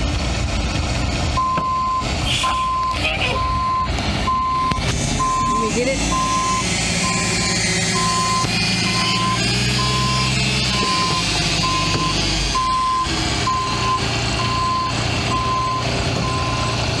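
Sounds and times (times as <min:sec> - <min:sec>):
diesel engine running: 0:00.0 - 0:17.0
backup alarm beeping: 0:01.4 - 0:16.8.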